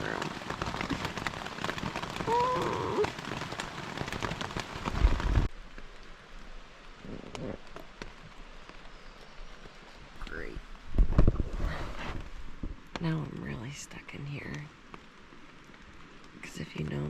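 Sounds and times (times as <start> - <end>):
rain pattering on a tent: 0.0 - 17.0.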